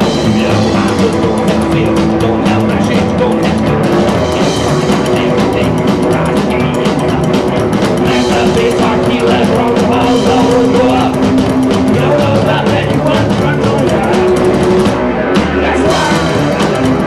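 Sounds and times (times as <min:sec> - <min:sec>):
man singing into microphone: 0:00.0 - 0:11.3, 0:11.9 - 0:17.0
rock band playing loudly: 0:00.0 - 0:17.0.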